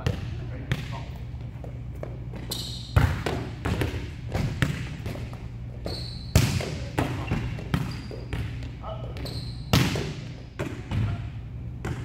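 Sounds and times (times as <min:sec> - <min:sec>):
steady low hum: 0:00.0 - 0:12.0
volleyballs smacking and bouncing: 0:00.0 - 0:12.0.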